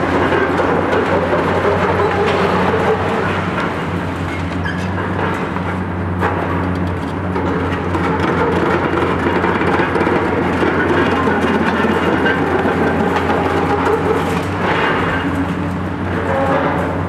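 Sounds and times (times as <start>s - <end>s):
excavator diesel engines humming: 0.0s - 17.0s
rumble of machinery: 0.0s - 17.0s.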